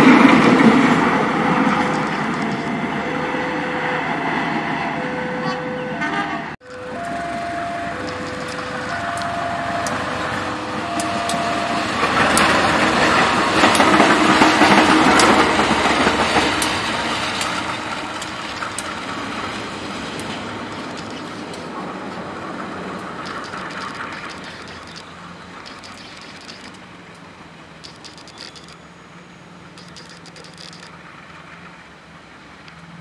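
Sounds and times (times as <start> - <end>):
wheels clicking over rail joints: 0.0 - 2.9, 6.6 - 33.0
locomotive passing: 0.0 - 33.0
level crossing alarm: 0.1 - 26.8, 27.8 - 30.9.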